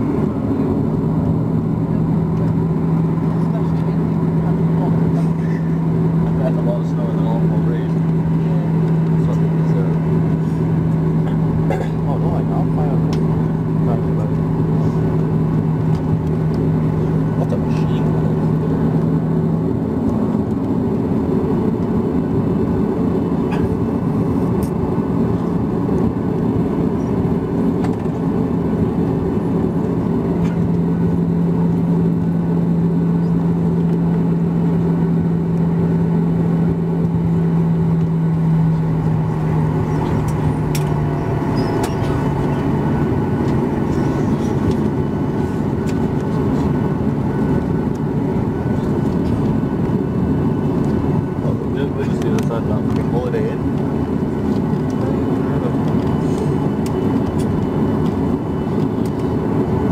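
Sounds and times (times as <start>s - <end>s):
aircraft cabin engine hum: 0.0s - 59.9s.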